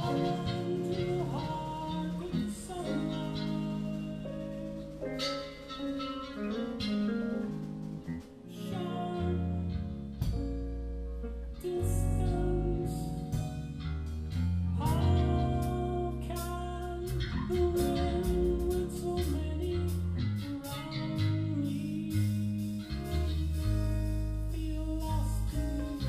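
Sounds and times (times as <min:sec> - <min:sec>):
person singing: 0:00.0 - 0:05.8, 0:08.4 - 0:10.5, 0:11.4 - 0:13.6, 0:14.7 - 0:26.0
bass line: 0:00.0 - 0:26.0
keyboard and guitar chords: 0:00.0 - 0:26.0.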